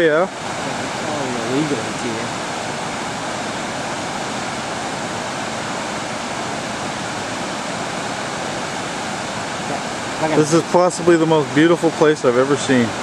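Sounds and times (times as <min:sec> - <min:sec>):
white water roaring: 0:00.0 - 0:13.0.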